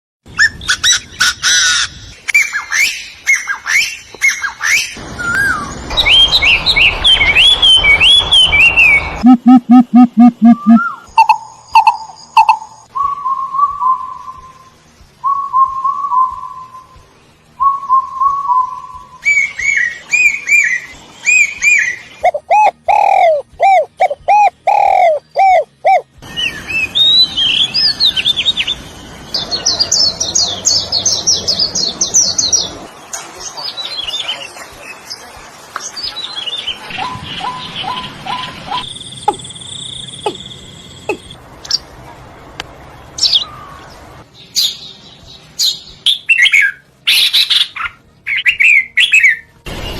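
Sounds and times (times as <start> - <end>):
birds calling and singing: 0.4 - 9.3, 10.5 - 41.9, 43.0 - 49.9.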